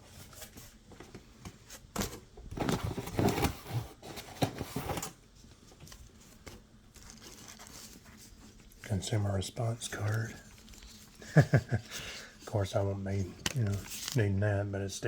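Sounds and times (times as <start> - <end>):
paper packaging rustling: 1.7 - 14.4.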